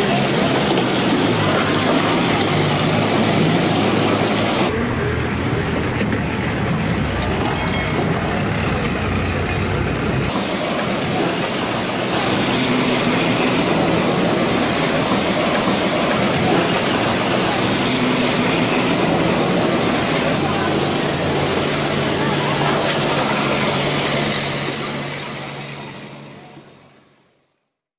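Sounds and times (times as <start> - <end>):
tracked vehicle engine and tracks: 0.0 - 27.7.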